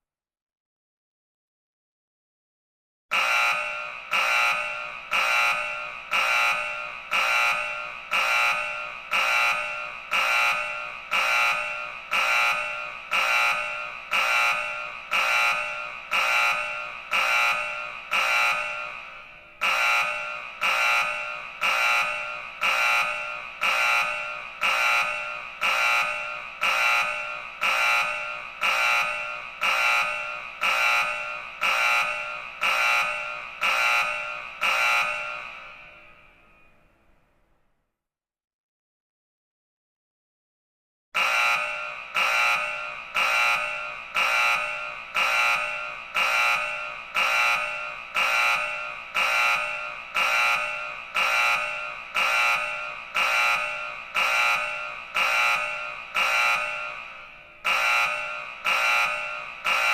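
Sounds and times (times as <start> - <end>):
pulsing electronic alarm tone: 3.1 - 36.9, 41.2 - 59.9.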